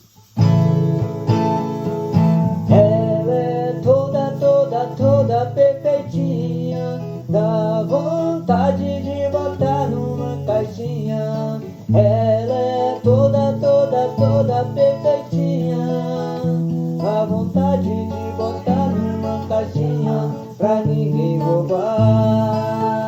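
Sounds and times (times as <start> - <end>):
acoustic guitar strumming and plucking: 0.0 - 23.0.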